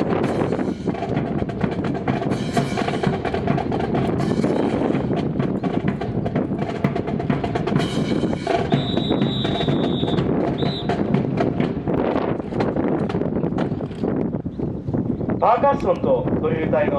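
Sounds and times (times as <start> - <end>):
marching drum cadence: 0.0 - 13.8.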